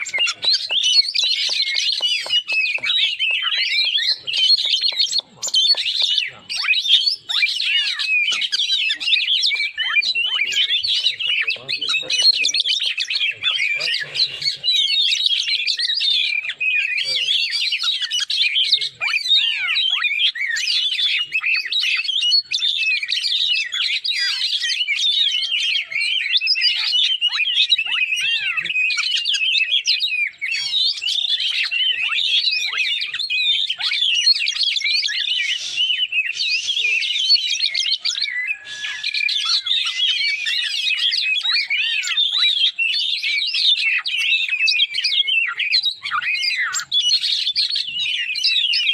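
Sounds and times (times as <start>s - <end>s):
bird twittering song: 0.0s - 48.9s.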